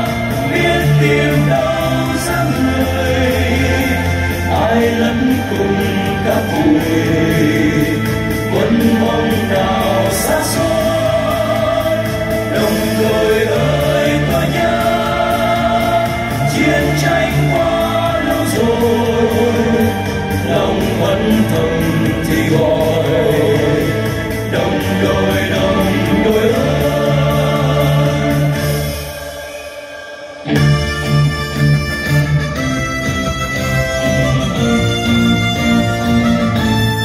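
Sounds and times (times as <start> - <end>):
male vocal quartet harmonies: 0.0 - 31.8
instrumental backing: 0.0 - 37.0.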